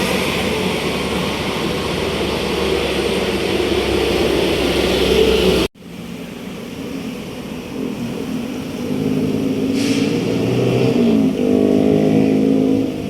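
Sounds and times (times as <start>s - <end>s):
bus engine passing: 0.0s - 13.0s
traffic noise: 0.0s - 13.0s.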